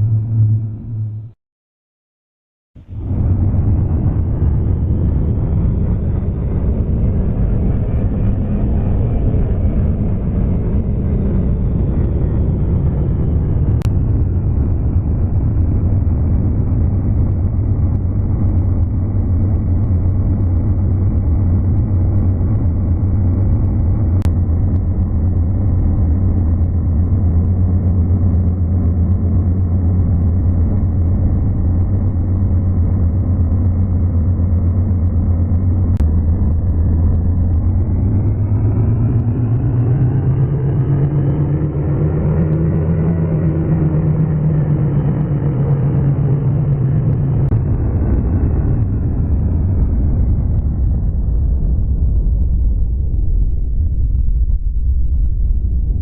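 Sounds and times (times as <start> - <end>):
low rumbling drone: 0.0 - 1.4, 2.8 - 56.0.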